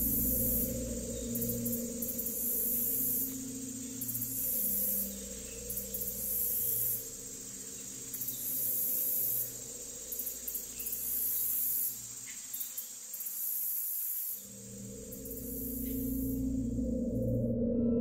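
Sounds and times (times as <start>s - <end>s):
low sustained drone: 0.0s - 12.2s, 14.4s - 18.0s
high insect-like trill: 0.0s - 17.6s.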